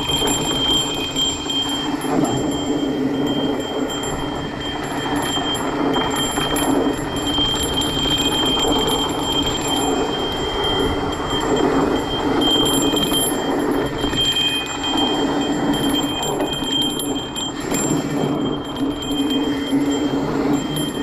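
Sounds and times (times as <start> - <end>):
bike tyres rattling over dirt: 0.0 - 21.0.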